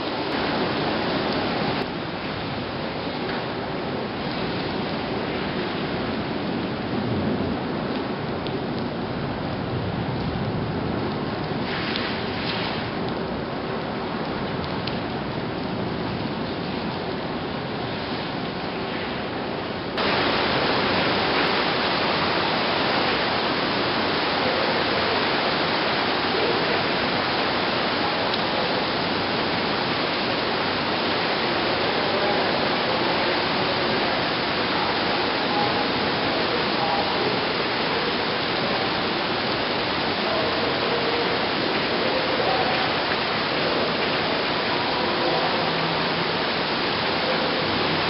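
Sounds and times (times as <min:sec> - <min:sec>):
heavy rain pouring: 0:00.0 - 0:48.0.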